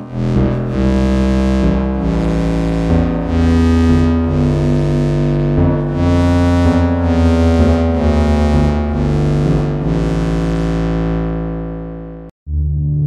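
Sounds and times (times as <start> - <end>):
synthesizer chord over bass notes: 0.0 - 13.0.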